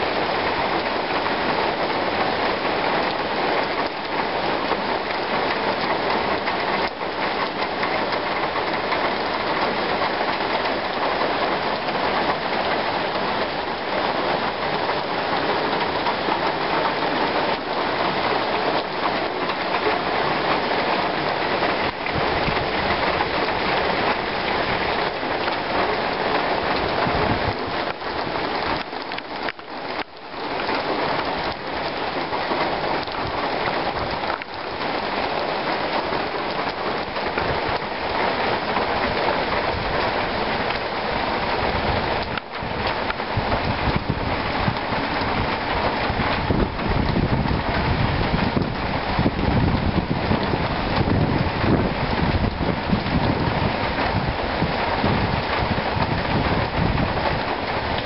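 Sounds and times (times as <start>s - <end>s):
heavy rain on leafy trees: 0.0s - 58.0s.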